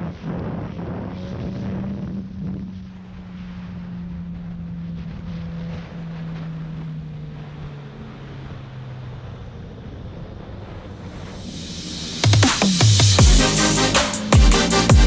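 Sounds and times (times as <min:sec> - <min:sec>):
wind rushing over microphone: 0:00.0 - 0:13.3
motorcycle engine droning: 0:00.0 - 0:15.0.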